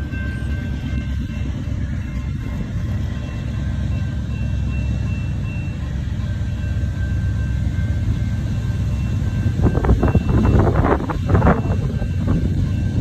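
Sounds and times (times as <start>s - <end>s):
crossing warning bell ringing: 0.0s - 13.0s
diesel locomotive rumble: 0.0s - 13.0s.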